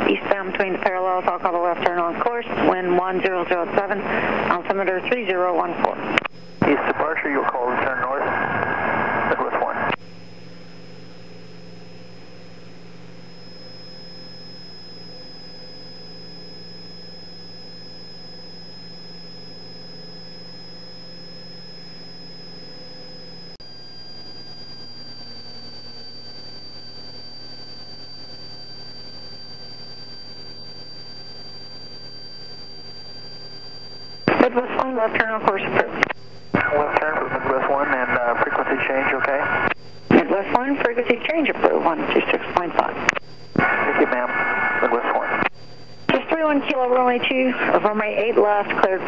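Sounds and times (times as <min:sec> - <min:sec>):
aircraft engine drone: 0:00.0 - 0:49.0
thin high whine: 0:00.0 - 0:49.0.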